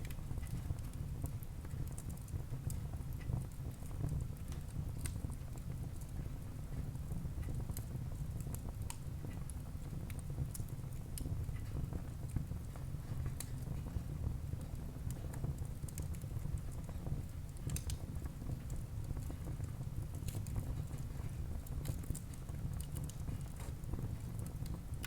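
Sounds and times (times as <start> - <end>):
burning logs crackling and popping: 0.0 - 25.0
low rumble of flames: 0.0 - 25.0.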